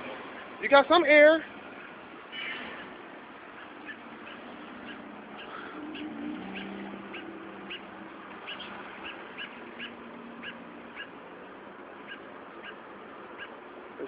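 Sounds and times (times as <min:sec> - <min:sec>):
fledgling bird chirping: 0:01.7 - 0:14.0.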